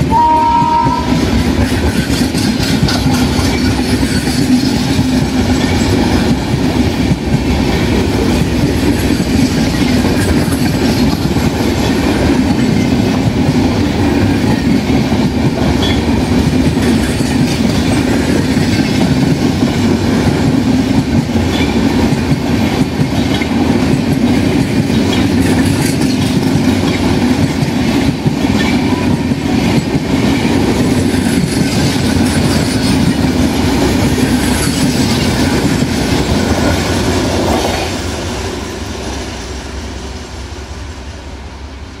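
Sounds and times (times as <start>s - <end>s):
train wheels clattering over rail joints: 1.1s - 38.2s.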